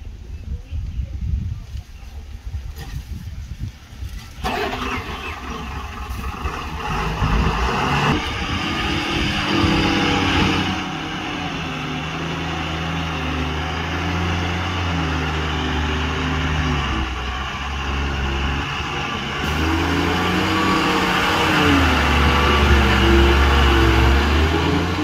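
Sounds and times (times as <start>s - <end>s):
diesel truck engine under load: 4.3s - 25.0s.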